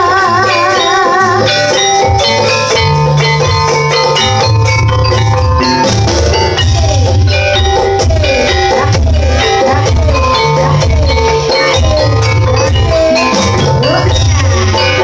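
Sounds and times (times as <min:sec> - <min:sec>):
drums: 0:00.0 - 0:15.0
metallophone notes: 0:00.0 - 0:15.0
heavy bass line: 0:01.2 - 0:15.0.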